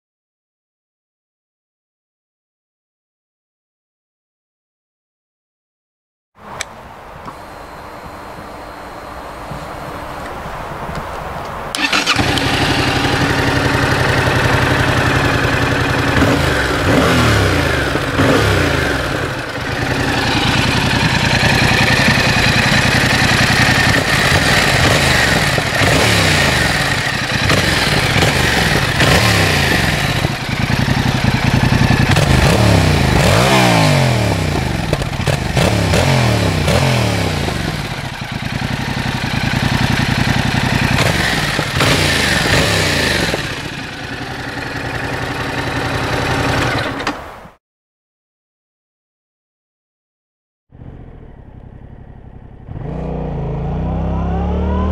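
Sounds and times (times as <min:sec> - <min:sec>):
motorcycle engine idling and revving: 0:06.5 - 0:11.1, 0:11.7 - 0:47.2, 0:50.7 - 0:54.9.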